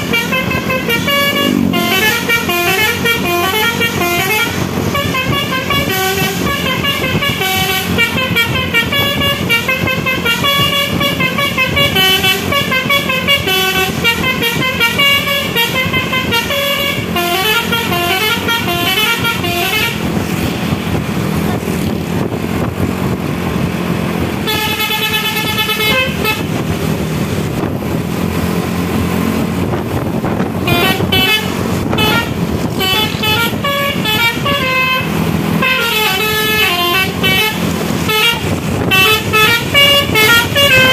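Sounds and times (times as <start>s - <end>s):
musical bus air horn: 0.0s - 22.3s, 24.3s - 27.7s, 29.9s - 40.9s
bus engine and road noise: 0.0s - 40.9s.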